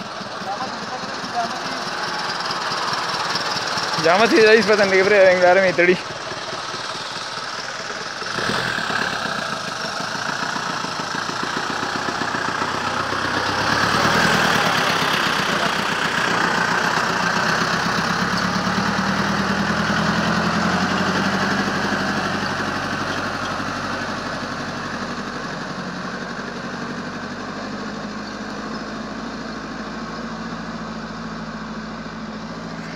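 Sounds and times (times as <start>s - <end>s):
truck engine pulling away: 0.0s - 32.9s.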